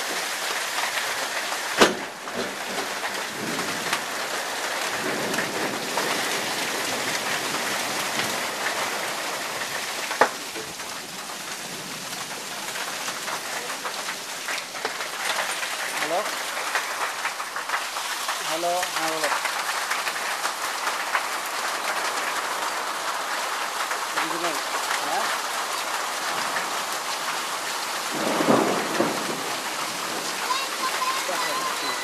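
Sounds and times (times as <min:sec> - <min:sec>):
heavy rain pattering: 0:00.0 - 0:32.0.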